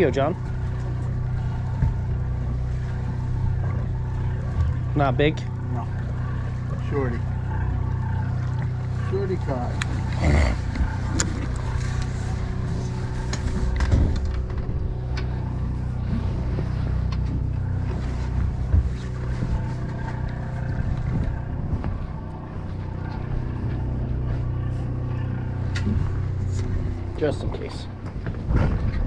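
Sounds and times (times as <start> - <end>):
boat engine humming: 0.0 - 29.0.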